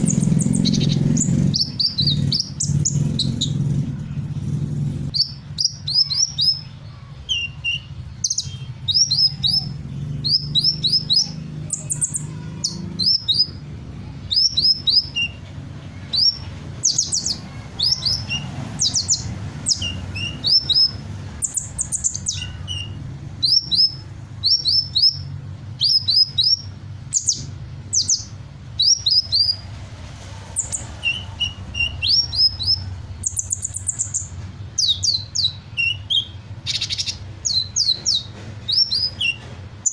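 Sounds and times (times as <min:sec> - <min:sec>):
sunbird rapid high chirps: 0:00.0 - 0:39.9.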